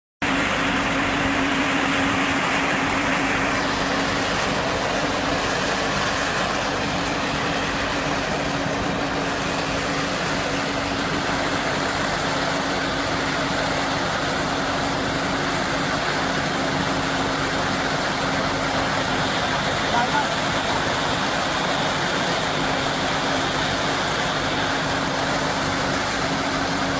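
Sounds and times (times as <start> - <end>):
baler machine running: 0.2 - 26.9
constant hum: 0.2 - 26.9.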